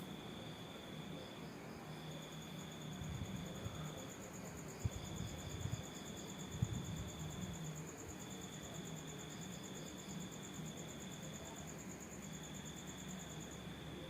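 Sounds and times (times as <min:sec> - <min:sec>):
lower steady insect tone: 0:00.0 - 0:14.0.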